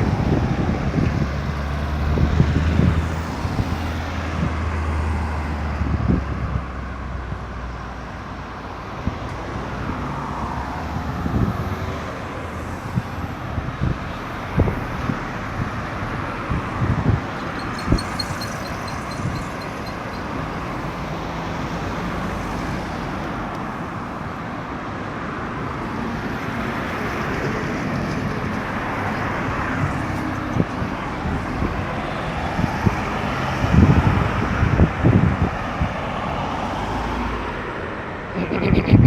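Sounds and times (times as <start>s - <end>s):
road traffic hiss: 6.6s - 39.0s.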